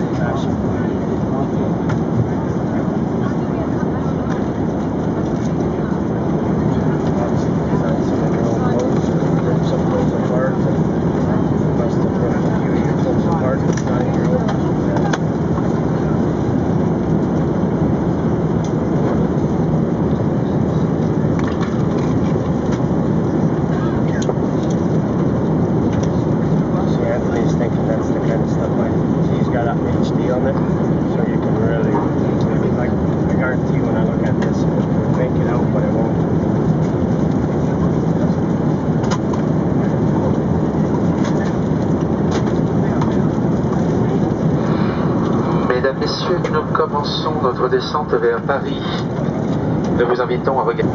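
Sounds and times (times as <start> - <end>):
airplane cabin rushing noise: 0.0 - 50.9.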